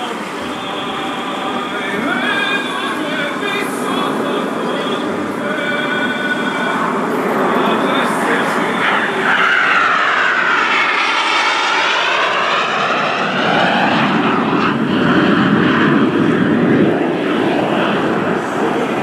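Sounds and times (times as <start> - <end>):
jet engines flying past: 0.0 - 19.0.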